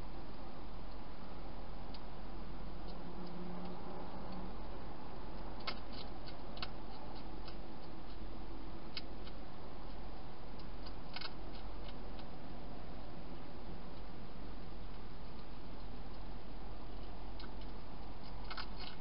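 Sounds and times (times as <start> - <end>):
low hum: 0.0 - 19.0
hedgehog chewing dry food: 2.7 - 19.0.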